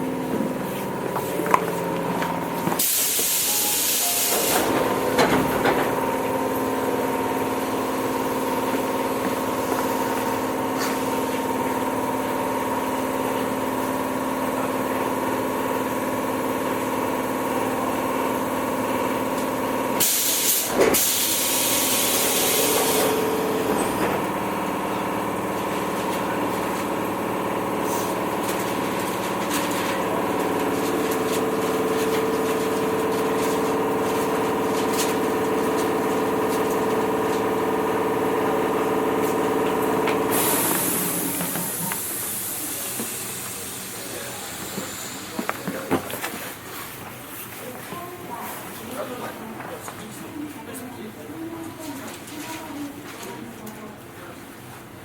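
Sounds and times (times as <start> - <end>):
electric train humming: 0.0 - 45.8
wheel and rail rumble: 0.0 - 50.6.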